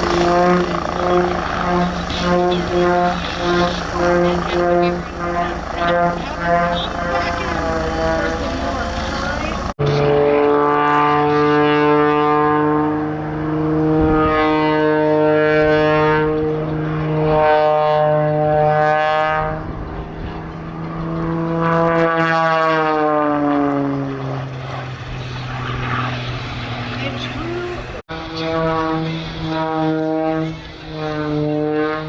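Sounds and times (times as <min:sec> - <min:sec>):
aircraft engine at high power: 0:00.0 - 0:32.0.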